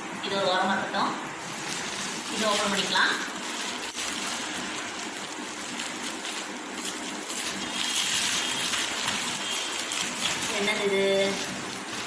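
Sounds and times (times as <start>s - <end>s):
packaging rustling and crinkling: 1.4s - 12.0s.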